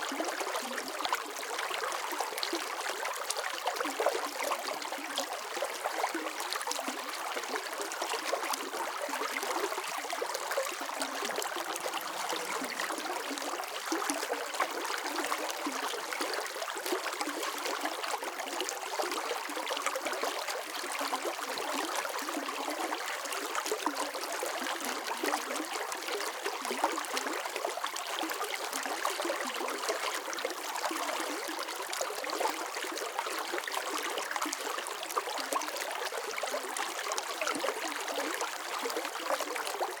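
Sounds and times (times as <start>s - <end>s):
stream flowing and trickling: 0.0s - 40.0s.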